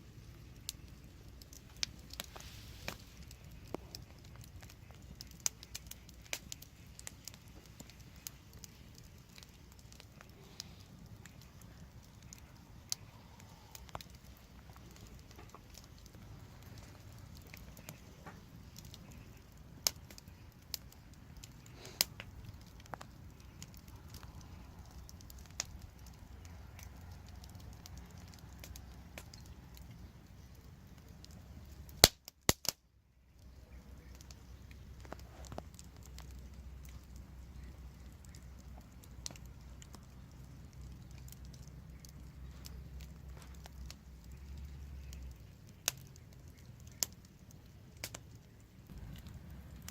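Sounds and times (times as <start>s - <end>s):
fire crackling pops: 0.0s - 49.9s
wood fire rumbling: 0.0s - 49.9s.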